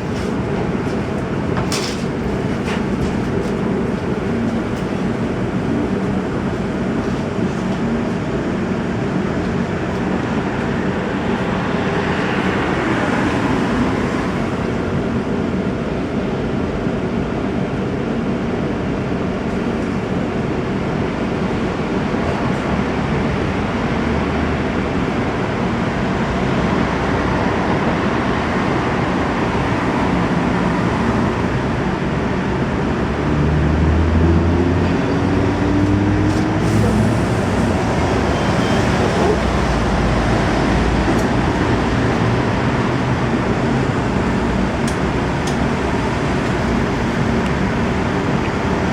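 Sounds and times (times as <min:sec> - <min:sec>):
tram wheels rumbling on rails: 0:00.0 - 0:48.9.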